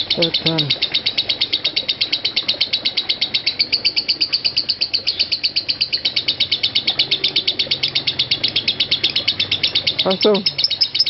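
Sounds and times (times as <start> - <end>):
lovebird chattering trill: 0.0 - 11.0.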